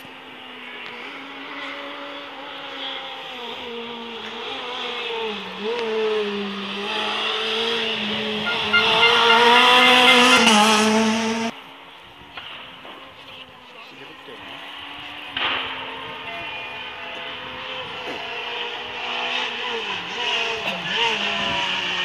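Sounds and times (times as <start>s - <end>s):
rally car engine revving: 0.0s - 11.6s, 12.3s - 22.0s.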